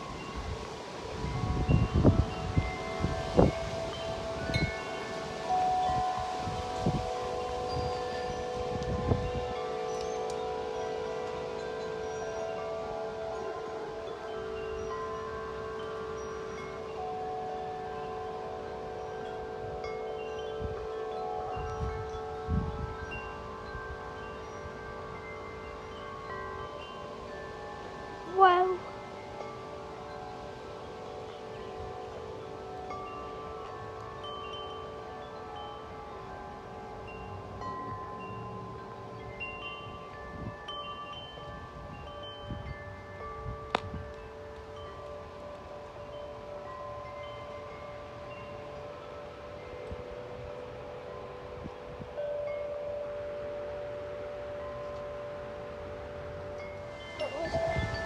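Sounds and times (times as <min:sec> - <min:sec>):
wind chimes ringing: 0:00.0 - 0:58.0
wind rumbling on microphone: 0:00.0 - 0:58.0.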